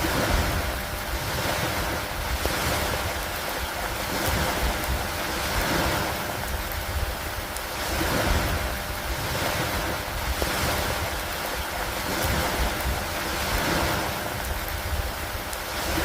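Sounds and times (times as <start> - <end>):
rain on wooden dock: 0.0 - 16.0.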